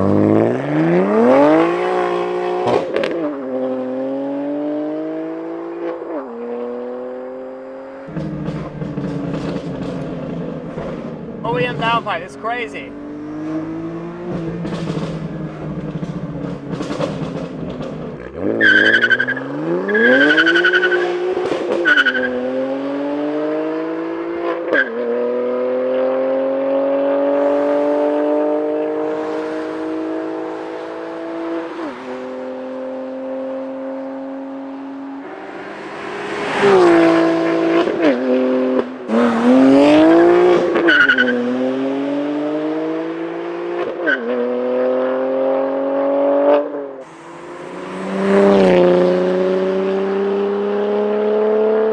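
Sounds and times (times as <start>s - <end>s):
car engine accelerating hard: 0.0s - 51.9s.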